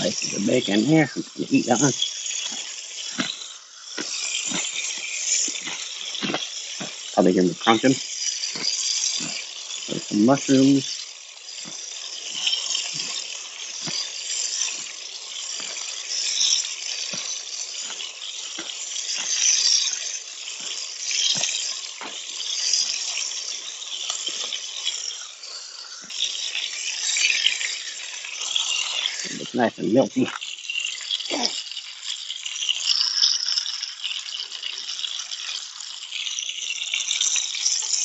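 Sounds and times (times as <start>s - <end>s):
food sizzling in a pan: 0.0s - 38.0s
grease popping and crackling: 0.0s - 38.0s.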